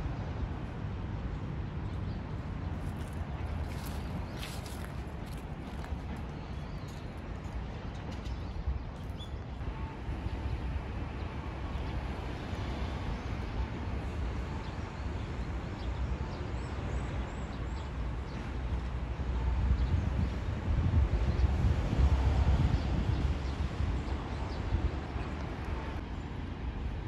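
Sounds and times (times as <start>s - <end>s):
distant traffic rumble: 0.0s - 27.0s.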